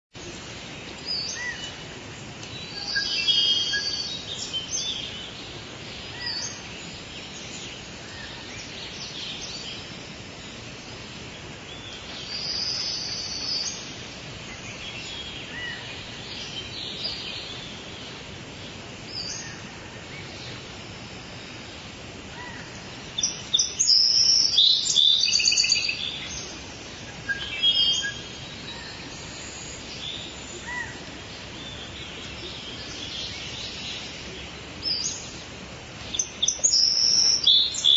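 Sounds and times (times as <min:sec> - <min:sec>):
birds calling and chirping: 0:00.2 - 0:37.9
rapid repeated bird calls: 0:00.2 - 0:37.9
steady background hiss: 0:00.2 - 0:37.9.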